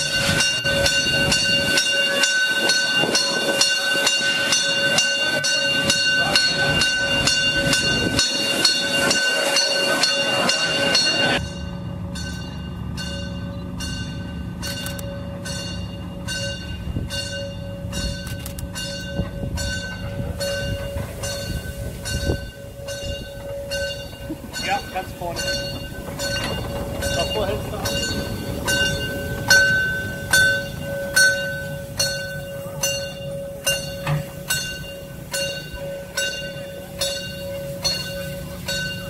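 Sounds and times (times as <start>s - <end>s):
steam locomotive bell ringing: 0.0s - 39.0s.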